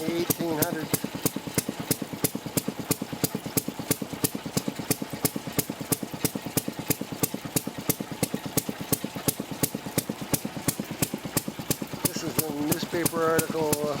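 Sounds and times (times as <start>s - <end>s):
two-stroke engine running slowly: 0.0s - 14.0s.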